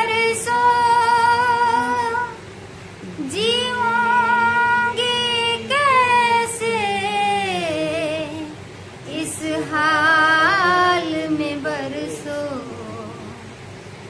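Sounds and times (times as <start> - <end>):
woman singing unaccompanied: 0.0 - 13.7.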